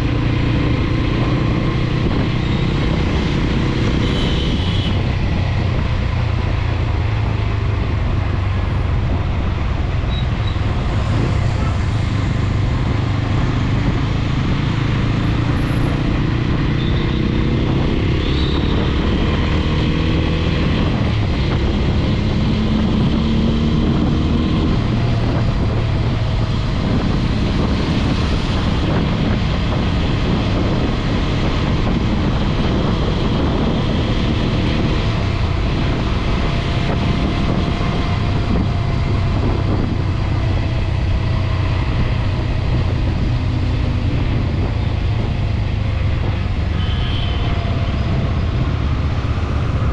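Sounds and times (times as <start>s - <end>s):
road noise: 0.0s - 49.9s.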